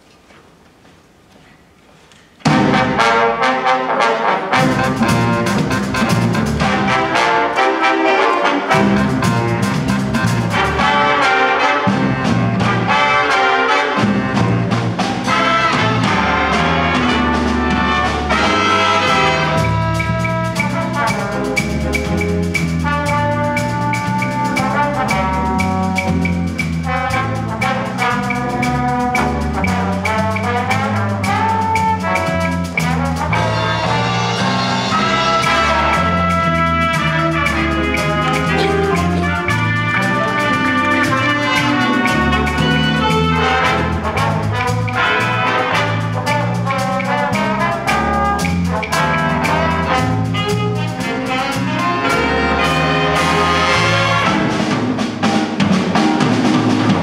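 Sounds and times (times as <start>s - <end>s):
jazz big band playing swing: 2.4s - 57.0s
walking bass line: 4.6s - 7.2s, 8.7s - 11.2s, 14.0s - 57.0s
drummer playing cymbals: 8.7s - 57.0s.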